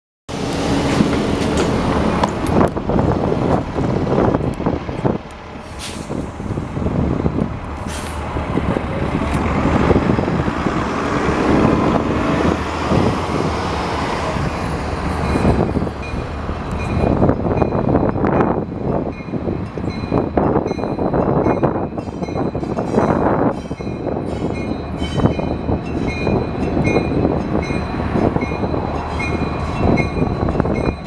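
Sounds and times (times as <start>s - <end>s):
diesel bus engine rumbling: 0.3s - 31.0s.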